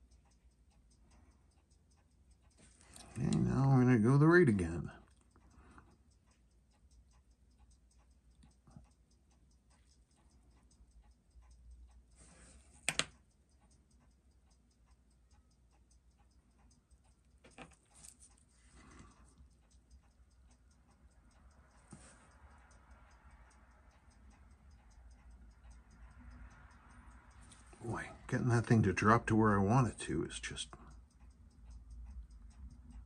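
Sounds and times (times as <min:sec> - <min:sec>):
watch ticking faintly: 0:00.0 - 0:33.0.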